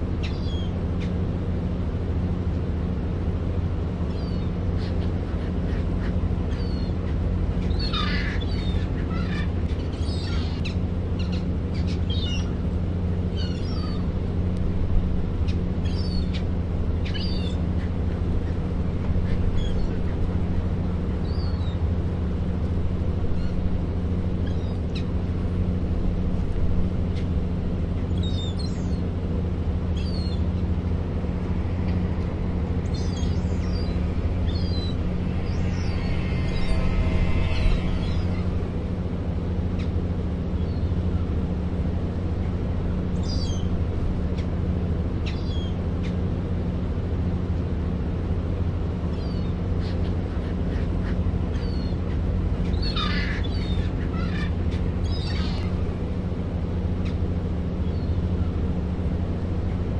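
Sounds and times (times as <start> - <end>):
gulls calling: 0.0 - 59.9
steady low rumble: 0.0 - 59.9.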